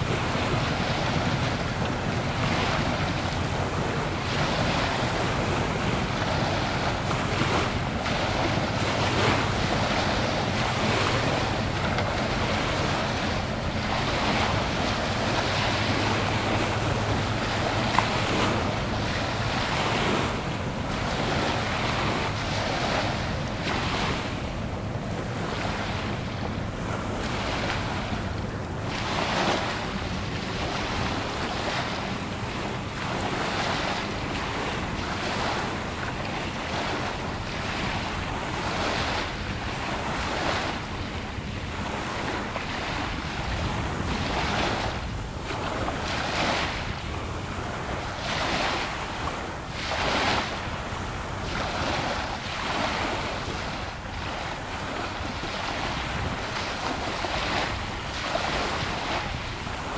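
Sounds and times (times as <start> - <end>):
small waves washing ashore: 0.0 - 59.9
wind buffeting microphone: 0.0 - 59.9.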